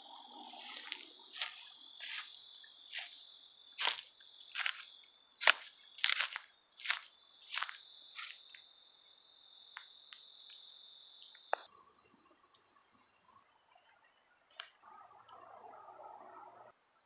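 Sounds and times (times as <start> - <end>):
high insect trills: 0.0 - 14.9
insect chorus drone: 0.0 - 17.0.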